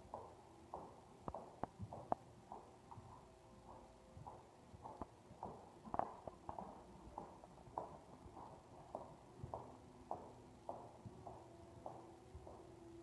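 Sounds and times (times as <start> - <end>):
horse hoofbeats in sand: 0.0 - 13.0.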